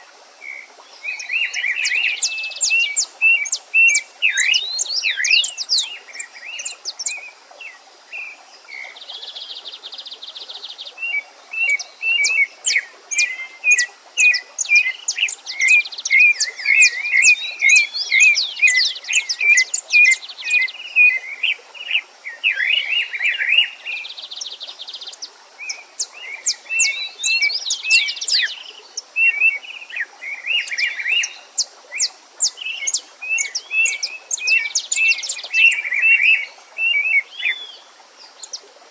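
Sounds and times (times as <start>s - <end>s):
faint stream rushing: 0.0s - 38.9s
songbirds chirping and singing: 0.4s - 38.7s.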